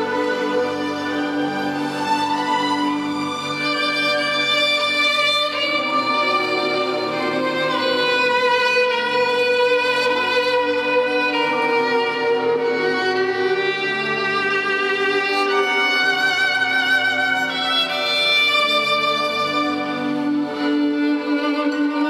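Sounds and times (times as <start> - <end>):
violin-led string music over loudspeakers: 0.0 - 22.0.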